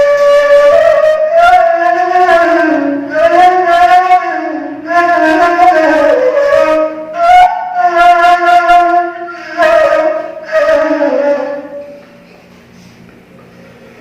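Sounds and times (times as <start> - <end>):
end-blown reed flute solo: 0.0 - 12.0.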